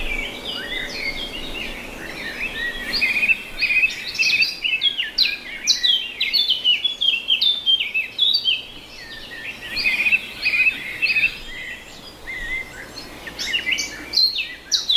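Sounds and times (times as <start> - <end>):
songbirds chirping and singing: 0.0 - 14.9.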